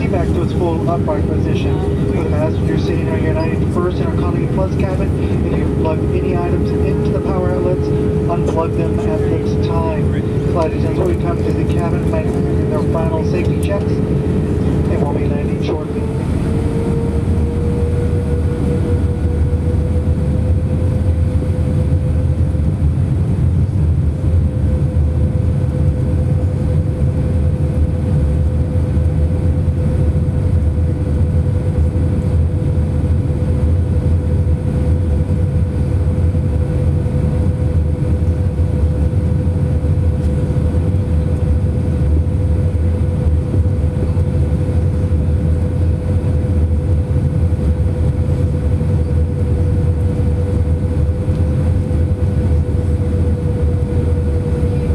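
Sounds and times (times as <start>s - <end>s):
deep rumble of airflow: 0.0s - 54.9s
jet engine whine: 0.0s - 54.9s.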